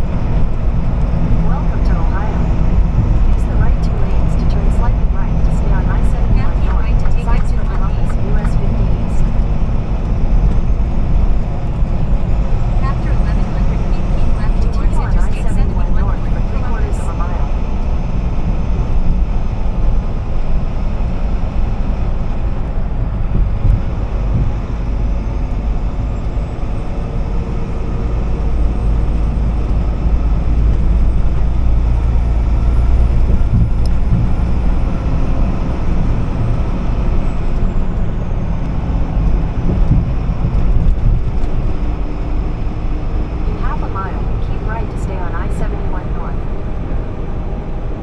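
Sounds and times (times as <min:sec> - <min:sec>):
truck engine and road rumble: 0:00.0 - 0:48.0.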